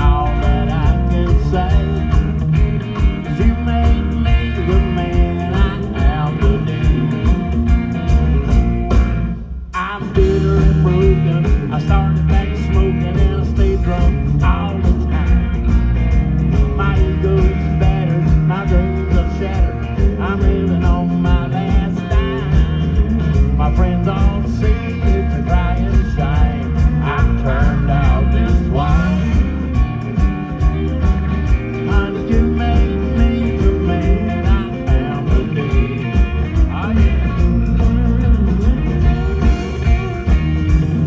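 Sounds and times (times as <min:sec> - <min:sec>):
country-rock band playing: 0:00.0 - 0:41.0
electric guitar lines: 0:00.0 - 0:41.0.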